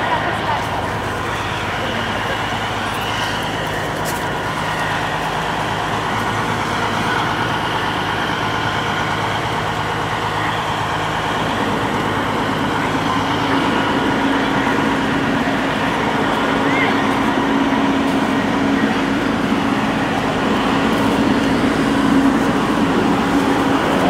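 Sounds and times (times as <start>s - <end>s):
fire truck engine humming: 0.0s - 24.0s.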